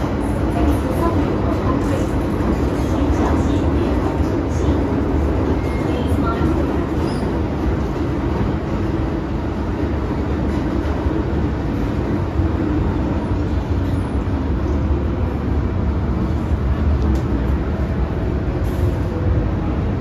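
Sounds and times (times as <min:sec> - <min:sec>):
train wheels rumbling in tunnel: 0:00.0 - 0:20.0.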